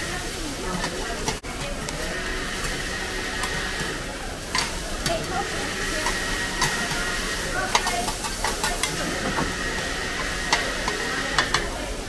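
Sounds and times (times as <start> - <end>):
omelette sizzling on a wok: 0.0 - 12.0
metal spatulas scraping a pan: 0.8 - 11.8.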